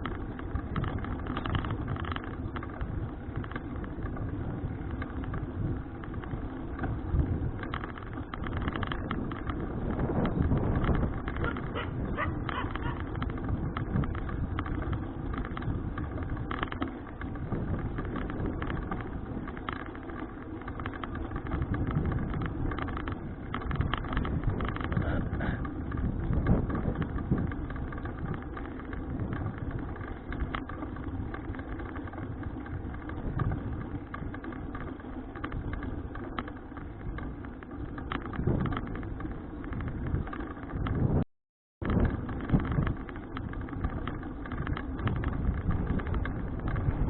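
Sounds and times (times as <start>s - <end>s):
wind buffeting microphone: 0.0s - 19.7s, 20.7s - 47.0s
road noise: 0.0s - 41.2s, 41.8s - 47.0s.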